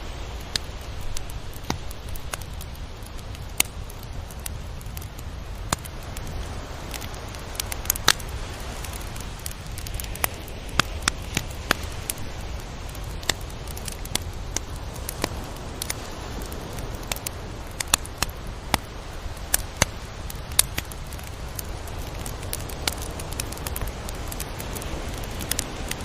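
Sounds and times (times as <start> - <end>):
surf washing: 0.0 - 26.0
wind noise: 0.0 - 26.0
sharp clicks and crackles: 0.3 - 26.0.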